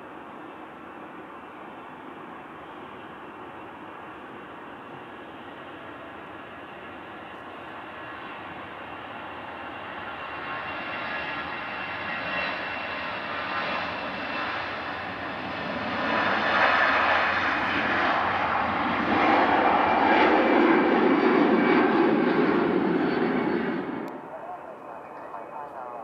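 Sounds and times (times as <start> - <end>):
jet engines running: 0.1 - 26.0.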